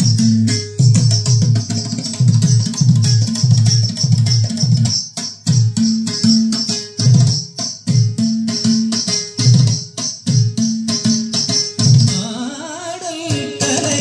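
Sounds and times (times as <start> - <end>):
plucked strings and percussion music: 0.0 - 14.0.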